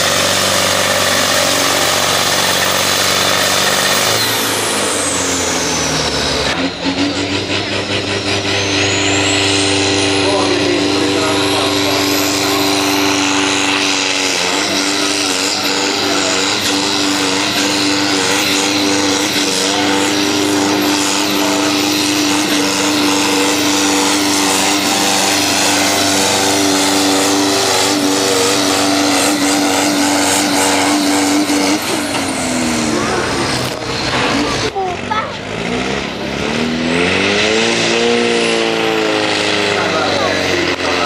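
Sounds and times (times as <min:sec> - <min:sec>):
tractor diesel engine under load: 0:00.0 - 0:41.0.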